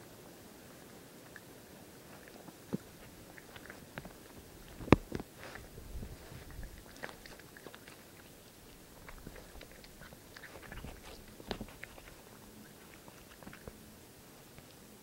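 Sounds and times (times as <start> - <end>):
raccoon chewing food: 0.1 - 15.0.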